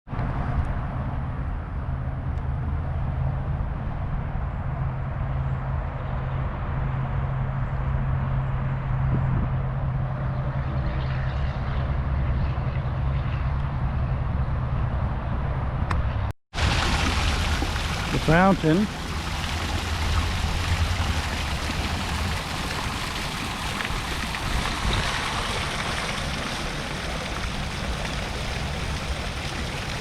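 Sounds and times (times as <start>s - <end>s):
continuous rushing noise: 0.1s - 30.0s.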